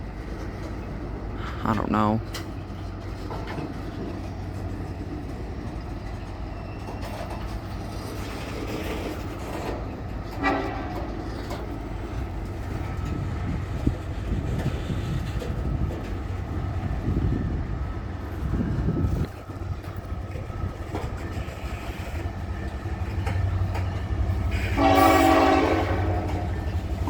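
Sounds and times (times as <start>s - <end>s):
diesel locomotives rumbling: 0.0s - 27.0s.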